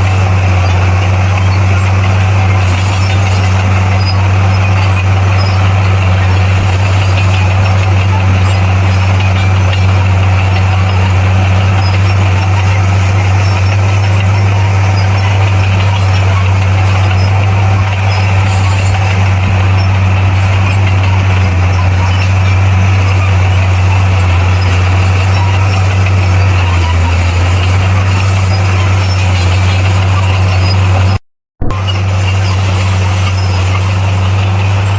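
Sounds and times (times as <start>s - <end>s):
bulldozer diesel engine droning: 0.0s - 34.9s.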